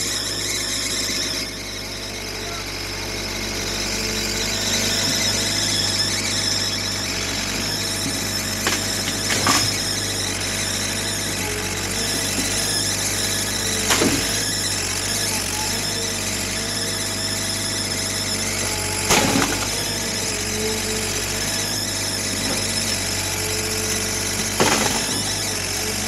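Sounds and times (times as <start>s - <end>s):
diesel engine running: 0.0s - 26.0s
high squeal: 0.0s - 26.0s.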